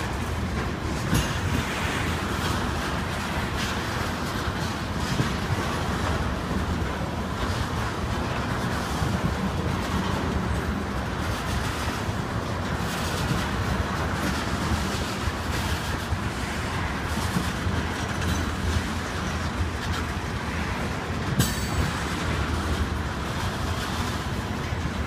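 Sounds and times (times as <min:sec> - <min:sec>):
steel wheels rumbling on rail: 0:00.0 - 0:25.0
wheels clacking over rail joints: 0:00.0 - 0:25.0.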